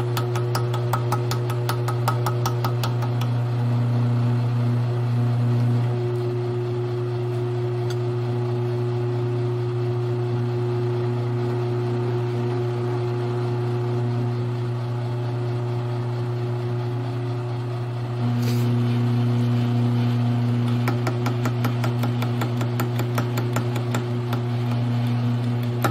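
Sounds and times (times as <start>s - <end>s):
drill press motor hum: 0.0s - 25.9s.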